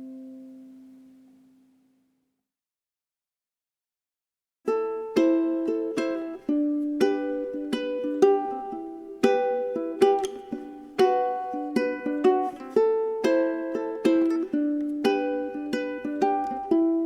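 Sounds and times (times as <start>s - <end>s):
plucked string tune: 0.0s - 1.4s, 4.7s - 17.0s.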